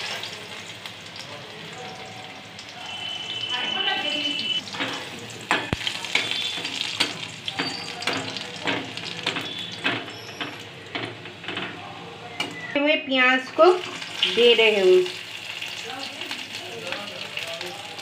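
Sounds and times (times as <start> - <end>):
garlic sizzling in hot oil: 0.0 - 11.8, 13.4 - 18.0.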